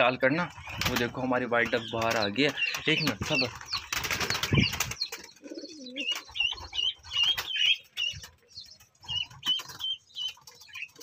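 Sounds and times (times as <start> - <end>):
bird wings flapping: 0.6 - 11.0.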